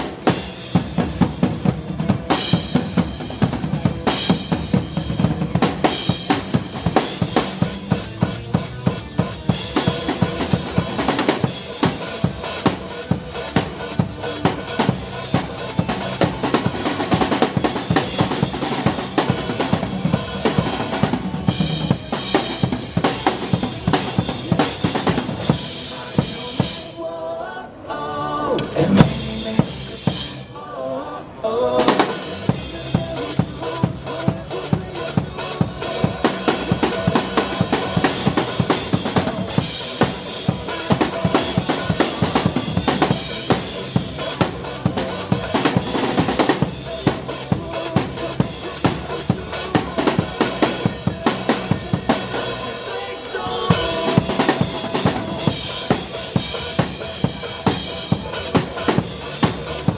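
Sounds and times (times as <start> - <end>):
drum kit playing rock beat: 0.0 - 26.9, 28.6 - 30.5, 31.8 - 59.9
band backing track: 0.0 - 27.0, 28.5 - 30.6, 31.7 - 59.9.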